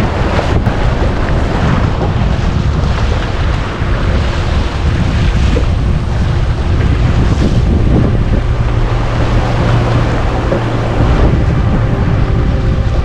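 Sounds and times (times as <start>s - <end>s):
low steady hum: 0.0s - 13.0s
water splashing along hull: 0.0s - 13.0s
wind buffeting microphone: 0.0s - 13.0s.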